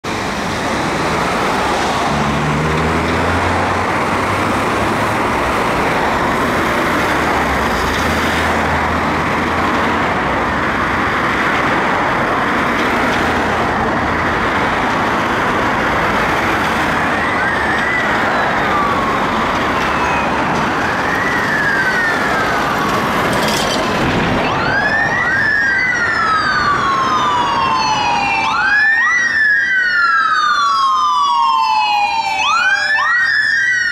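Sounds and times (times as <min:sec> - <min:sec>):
police sirens: 0:00.0 - 0:33.9
road traffic passing: 0:00.0 - 0:33.9.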